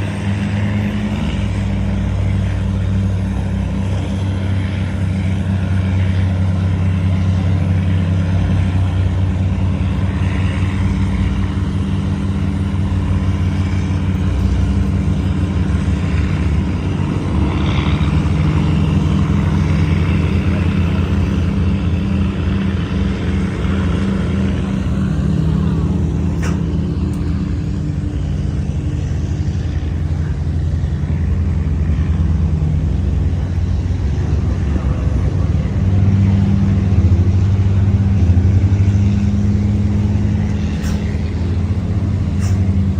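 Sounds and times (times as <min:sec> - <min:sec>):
tugboat diesel engine droning: 0:00.0 - 0:42.9.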